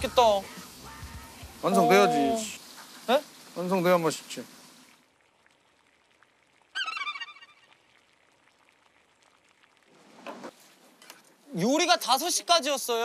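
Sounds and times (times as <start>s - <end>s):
pot bubbling: 0.0s - 12.4s.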